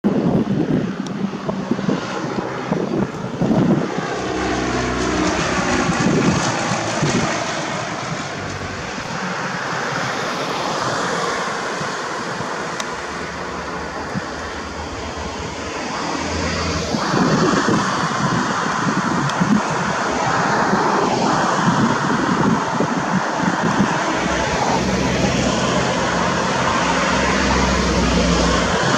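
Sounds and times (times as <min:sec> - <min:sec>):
wind buffeting microphone: 0:00.0 - 0:28.9
light aircraft flying past: 0:00.1 - 0:28.9.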